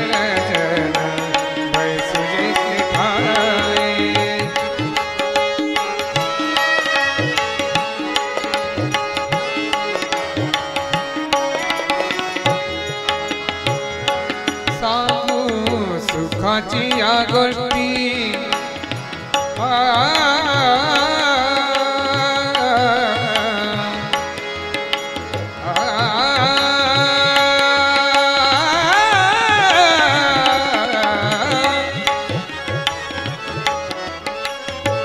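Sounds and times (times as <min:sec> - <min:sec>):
man singing: 0:00.0 - 0:34.0
harmonium: 0:00.0 - 0:35.0
tabla beat: 0:00.0 - 0:35.0
violin: 0:00.0 - 0:35.0.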